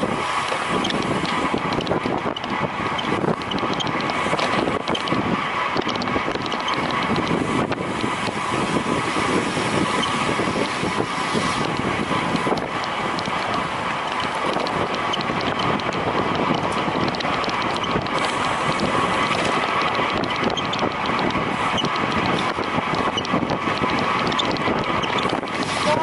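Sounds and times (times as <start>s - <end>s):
bicycle whirring: 0.0s - 26.0s
wind rushing over microphone: 0.0s - 26.0s.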